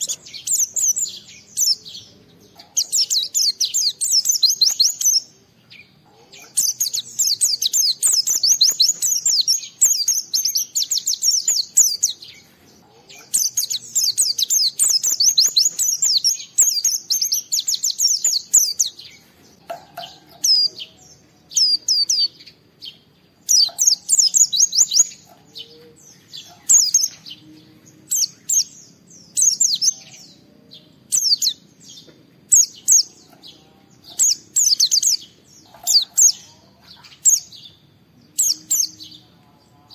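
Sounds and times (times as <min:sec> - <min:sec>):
bird singing high chirps: 0:00.0 - 0:39.4.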